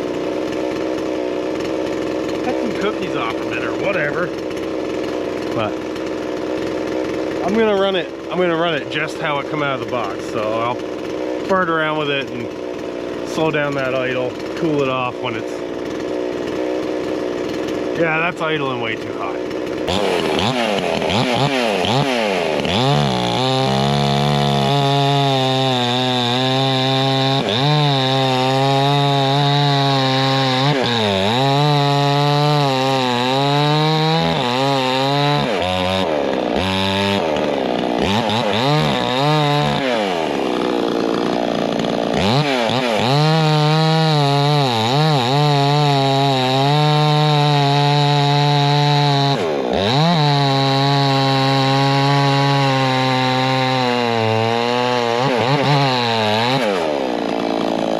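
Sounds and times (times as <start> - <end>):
chainsaw cutting wood: 0.0 - 57.9.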